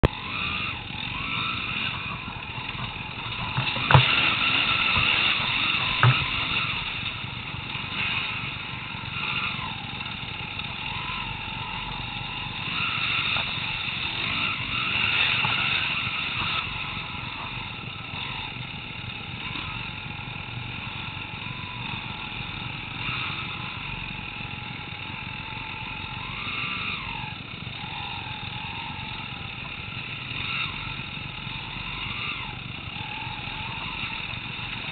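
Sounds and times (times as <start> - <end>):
dirt bike engines revving: 0.0 - 34.9.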